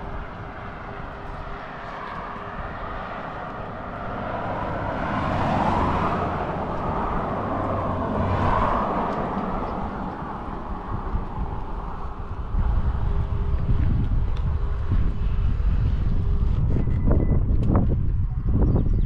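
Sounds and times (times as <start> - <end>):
outdoor background noise: 0.0 - 19.0
vehicles passing on road: 0.0 - 19.0.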